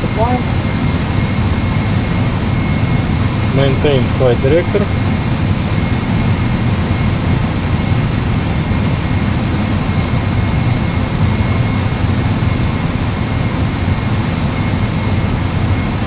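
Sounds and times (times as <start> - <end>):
engine and airflow rumble: 0.0 - 16.0.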